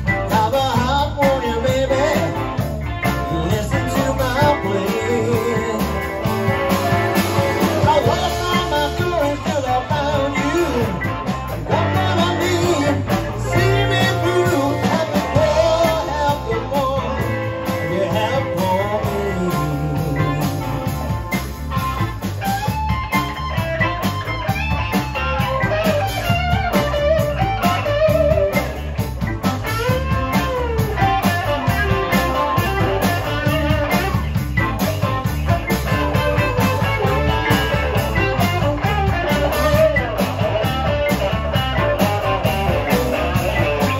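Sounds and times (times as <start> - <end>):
blues-rock music: 0.0 - 43.9
electric guitar lead bending: 0.0 - 43.9.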